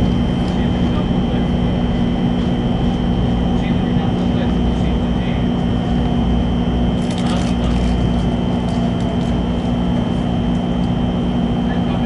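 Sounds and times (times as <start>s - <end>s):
train cabin rumble and hum: 0.0s - 12.0s.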